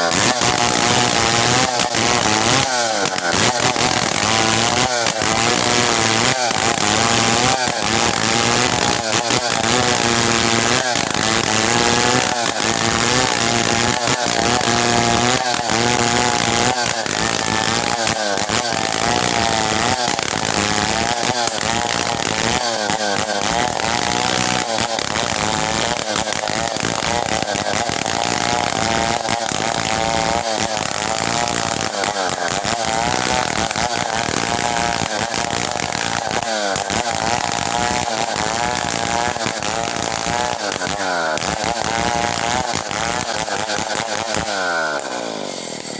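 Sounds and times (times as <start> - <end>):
chainsaw sawing through timber: 0.0 - 45.9.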